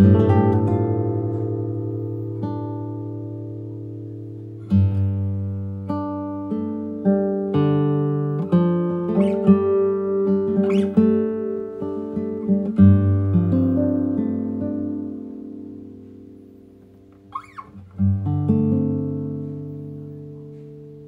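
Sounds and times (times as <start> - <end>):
fingerpicked acoustic guitar: 0.0 - 21.0.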